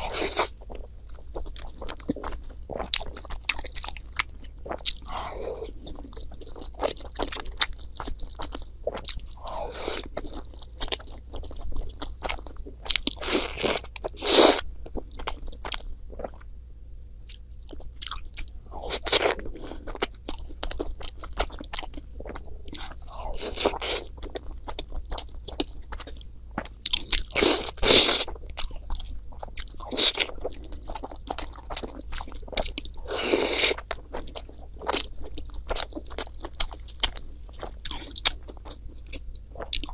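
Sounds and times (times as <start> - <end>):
chewing with wet mouth clicks: 0.0 - 16.5, 17.3 - 39.9.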